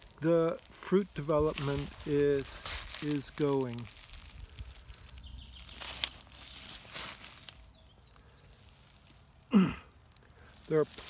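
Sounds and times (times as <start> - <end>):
foliage rustling and crackling: 0.0 - 11.0.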